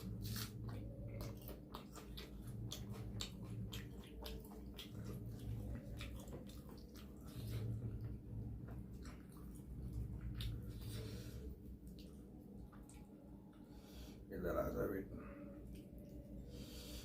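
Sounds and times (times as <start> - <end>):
wet chewing and mouth clicks: 0.0 - 13.8
low steady hum: 0.0 - 17.0.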